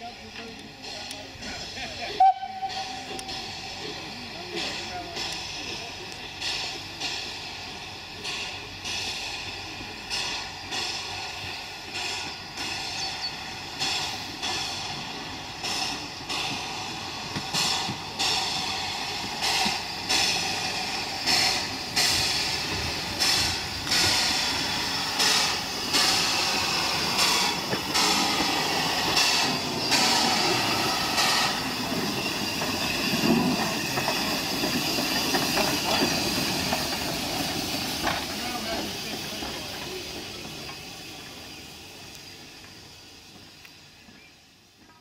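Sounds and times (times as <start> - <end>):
steam hissing: 0.0 - 45.0
steam locomotive exhaust beats: 0.0 - 45.0.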